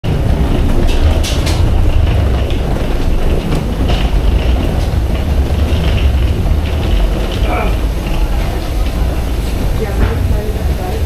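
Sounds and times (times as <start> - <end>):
footsteps on jet bridge: 0.0 - 11.0
low rumble: 0.0 - 11.0
suitcase wheels rolling: 0.0 - 11.0.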